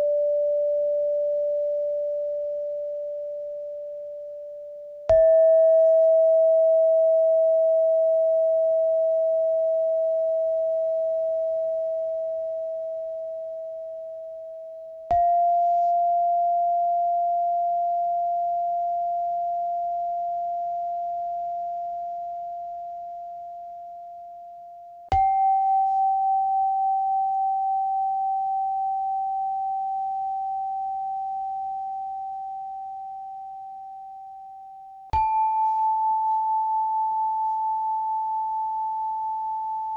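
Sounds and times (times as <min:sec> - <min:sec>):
meditation bell ringing: 0:00.0 - 0:39.9.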